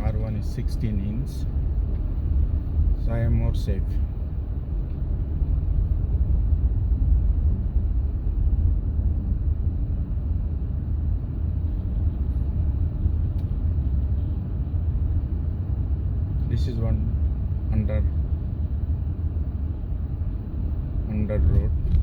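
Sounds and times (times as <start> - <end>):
engine and tyres rumbling on snow: 0.0 - 22.0.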